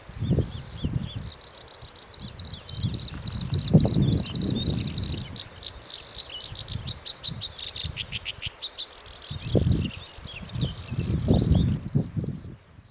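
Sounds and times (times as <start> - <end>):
warbler singing: 0.0 - 12.9.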